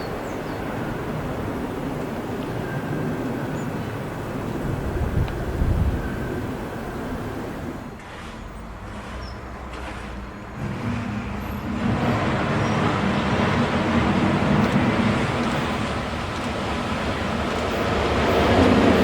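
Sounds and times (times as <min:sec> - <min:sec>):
freight train running: 0:00.0 - 0:19.0
locomotive low hum: 0:00.0 - 0:19.0.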